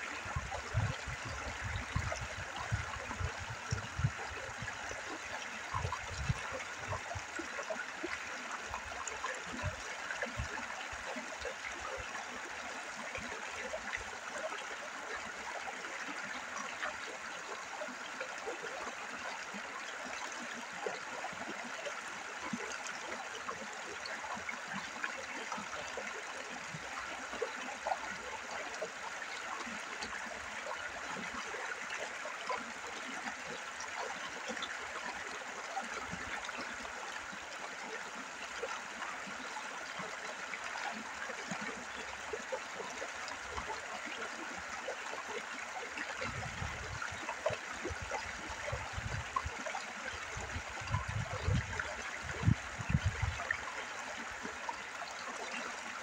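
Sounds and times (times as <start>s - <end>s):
river babbling over stones: 0.0s - 56.0s.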